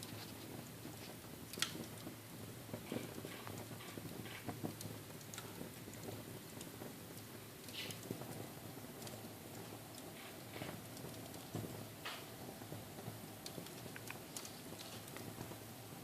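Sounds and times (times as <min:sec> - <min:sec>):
low hiss: 0:00.0 - 0:16.0
wood fire crackling: 0:00.0 - 0:16.0.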